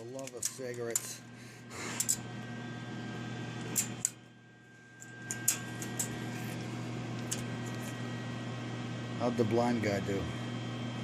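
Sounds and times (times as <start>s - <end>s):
background whir: 0.0s - 11.0s
low electrical hum: 0.0s - 11.0s.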